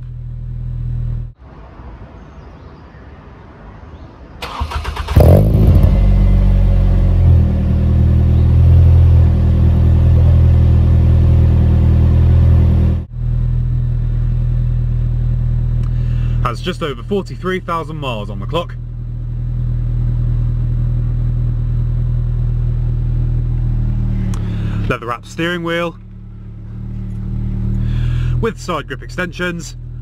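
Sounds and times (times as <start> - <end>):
car engine idling: 4.4 - 30.0.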